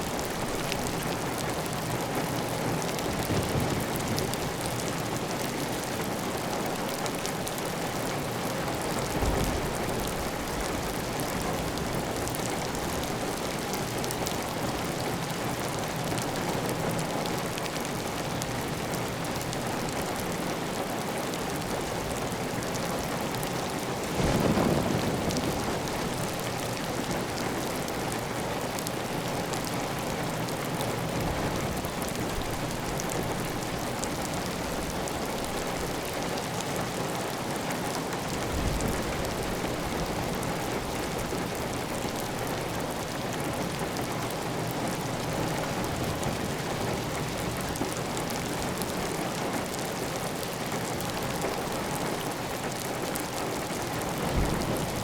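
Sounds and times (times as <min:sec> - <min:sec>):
heavy rain on a tiled roof: 0:00.0 - 0:55.0.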